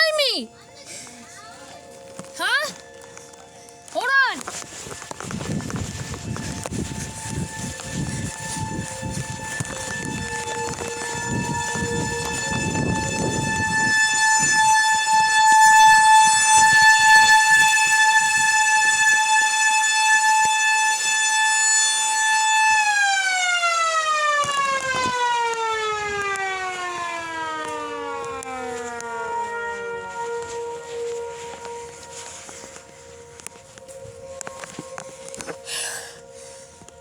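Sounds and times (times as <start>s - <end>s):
lower siren tone: 1.9s - 37.0s
warning siren steady tone: 1.9s - 37.0s.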